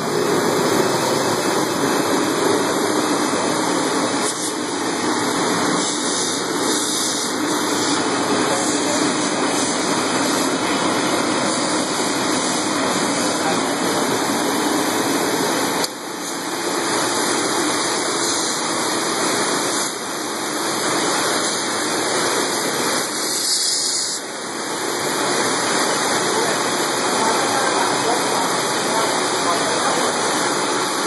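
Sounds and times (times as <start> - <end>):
water spraying from nozzles: 0.0 - 31.0.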